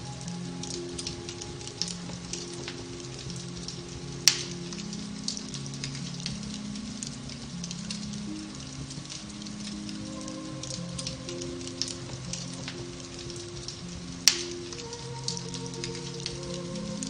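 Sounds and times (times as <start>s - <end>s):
soft music of held notes: 0.0s - 17.0s
wood fire crackling: 0.0s - 17.0s.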